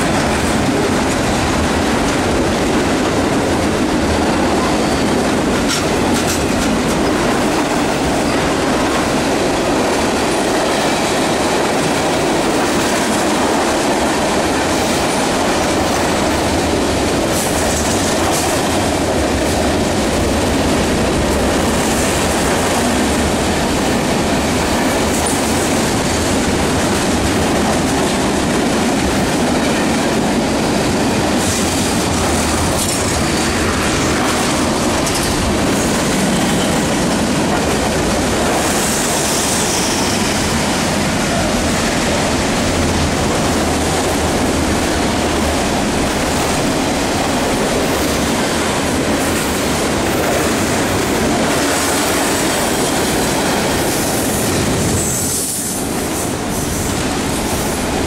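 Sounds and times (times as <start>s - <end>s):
clickety-clack over rail joints: 0.0s - 58.0s
train wheels on rails: 0.0s - 58.0s.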